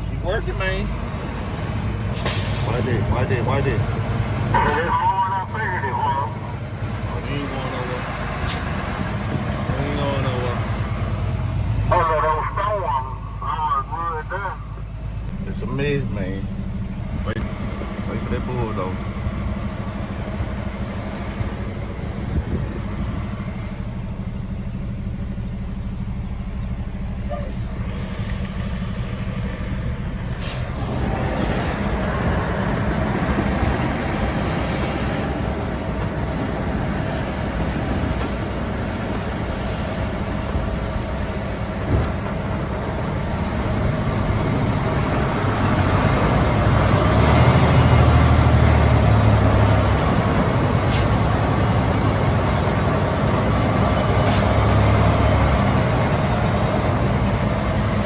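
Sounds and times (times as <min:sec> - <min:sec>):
truck engine under load: 0:00.0 - 0:58.0.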